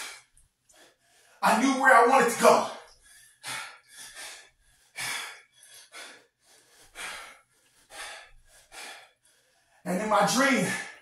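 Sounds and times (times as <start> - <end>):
man breathing hard: 0.0 - 1.4, 2.7 - 9.9, 10.6 - 11.0.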